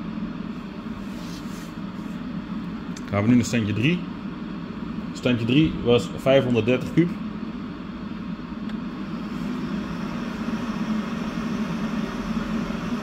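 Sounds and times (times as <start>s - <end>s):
duct fan rushing air: 0.0s - 13.0s.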